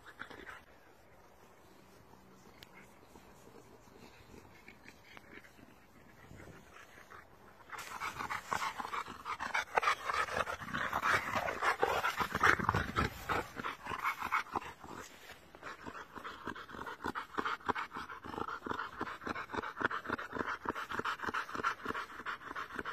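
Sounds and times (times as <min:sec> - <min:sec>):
dogs panting: 0:00.0 - 0:22.9.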